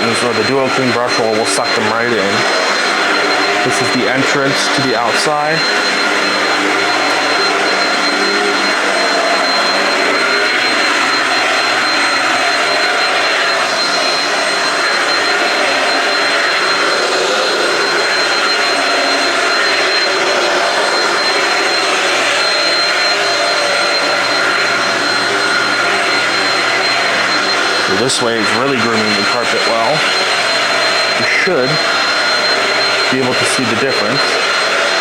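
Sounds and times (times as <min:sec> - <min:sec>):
high whine: 0:00.0 - 0:35.0
upright vacuum running on carpet: 0:00.0 - 0:35.0.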